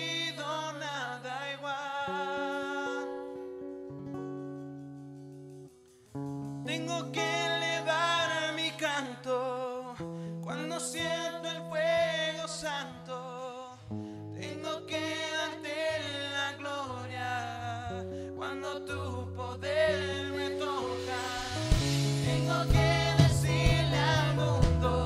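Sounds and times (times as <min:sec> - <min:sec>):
man singing: 0:00.0 - 0:03.4, 0:06.7 - 0:25.0
acoustic guitar: 0:00.0 - 0:25.0.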